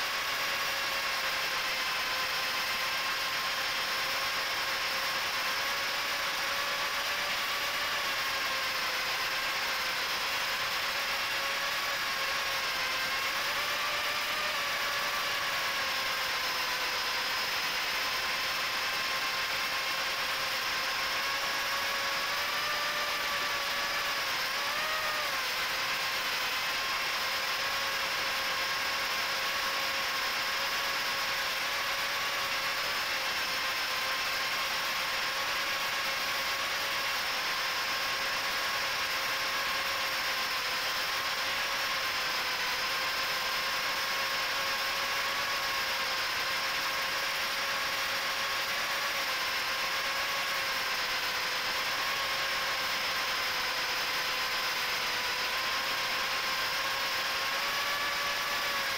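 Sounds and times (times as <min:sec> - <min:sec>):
quadcopter motors buzzing whine: 0:00.0 - 0:58.9.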